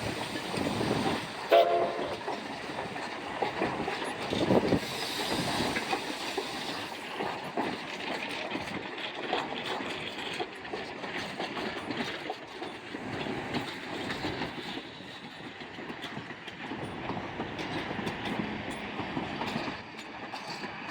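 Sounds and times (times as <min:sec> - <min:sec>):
train wheels clattering over rail joints: 0:00.0 - 0:20.9.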